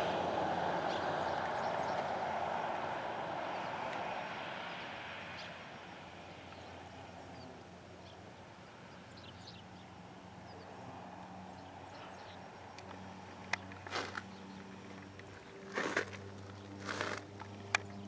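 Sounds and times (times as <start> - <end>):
plane engine drone: 0.0 - 18.0.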